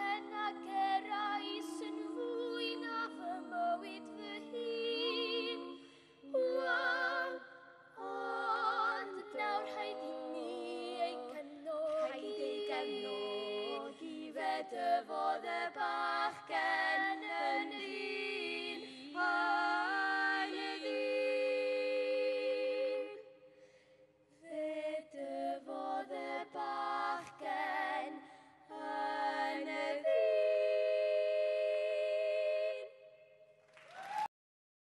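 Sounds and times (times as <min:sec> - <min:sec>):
girls singing in harmony: 0:00.0 - 0:23.3, 0:24.4 - 0:33.1.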